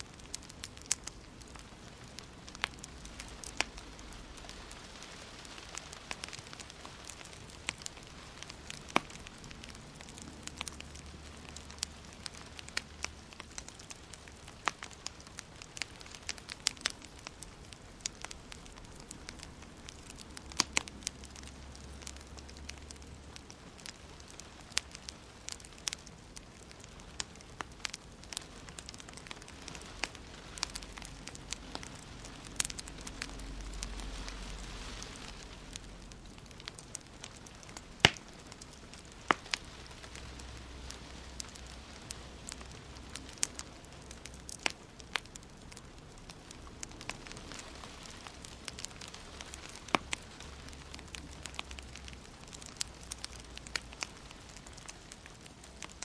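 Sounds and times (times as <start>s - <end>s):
sharp pops and snaps: 0.0s - 56.0s
wood fire crackling: 0.0s - 56.0s.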